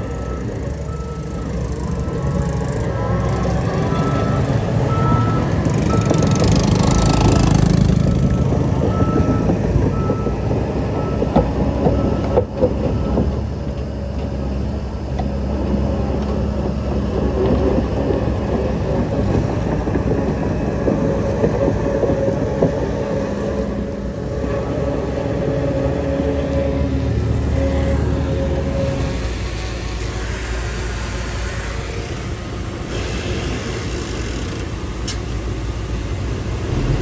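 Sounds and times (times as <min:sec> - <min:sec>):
diesel engine running: 0:00.0 - 0:37.0
machinery rattle and clatter: 0:00.0 - 0:37.0.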